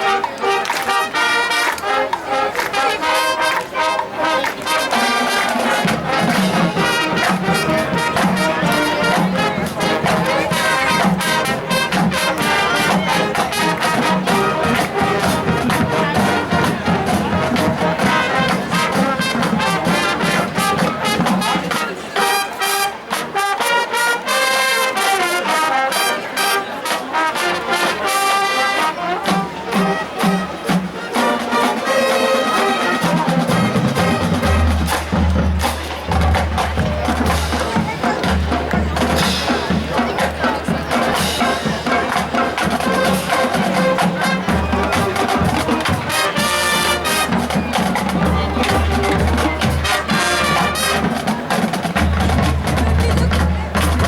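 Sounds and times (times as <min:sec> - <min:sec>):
marching band playing: 0:00.0 - 0:54.0.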